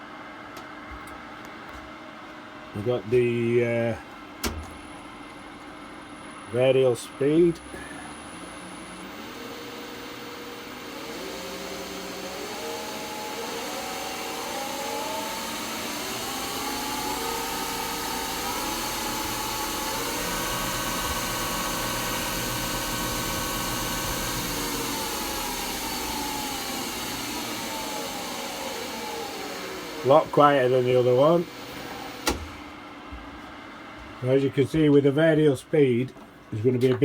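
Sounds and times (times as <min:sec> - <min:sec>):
lathe motor whine: 0:03.8 - 0:34.1.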